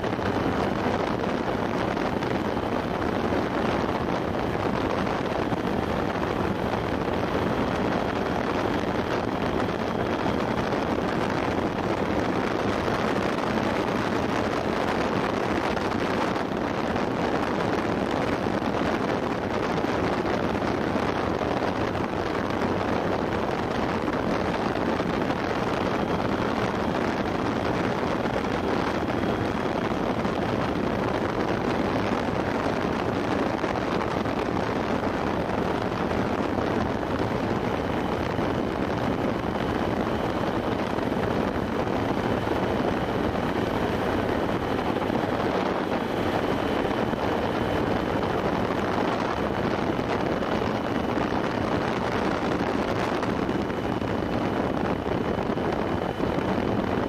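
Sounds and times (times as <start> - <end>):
wind rushing on microphone: 0.0 - 57.0.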